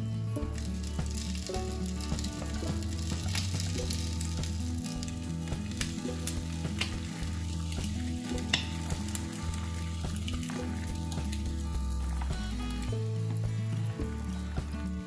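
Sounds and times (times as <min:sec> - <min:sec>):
food sizzling in a pan: 0:00.4 - 0:14.7.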